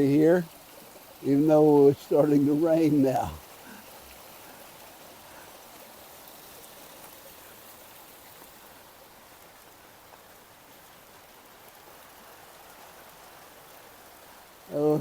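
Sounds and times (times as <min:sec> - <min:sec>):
light rain on foliage: 0:00.0 - 0:15.0.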